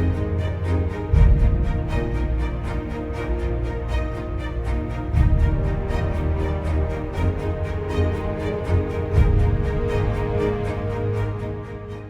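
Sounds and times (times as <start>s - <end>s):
music with a steady beat: 0.0s - 11.9s.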